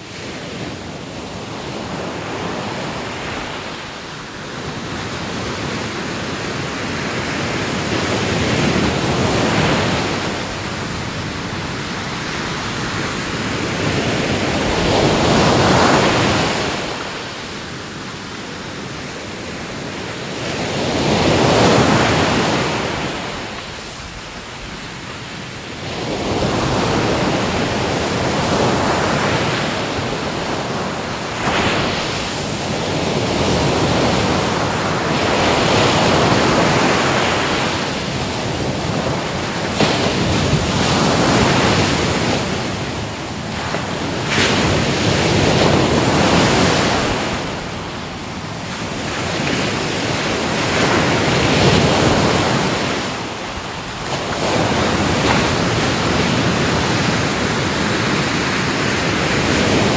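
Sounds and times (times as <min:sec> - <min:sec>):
ocean waves breaking ashore: 0:00.0 - 0:59.9.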